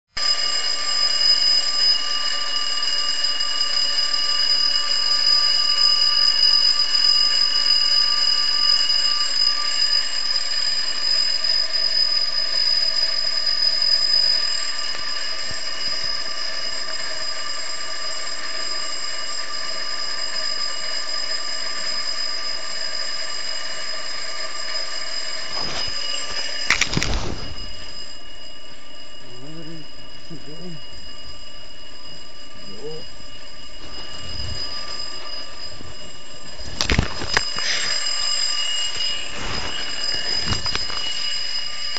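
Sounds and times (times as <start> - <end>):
alarm clock ringing: 0.0 - 41.9.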